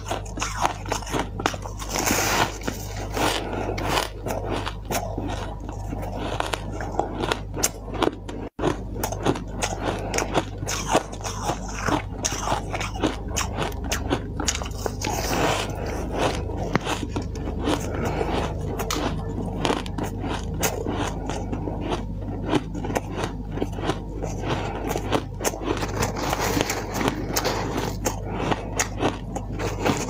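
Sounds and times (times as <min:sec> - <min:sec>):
biting and chewing ice: 0:00.0 - 0:30.0.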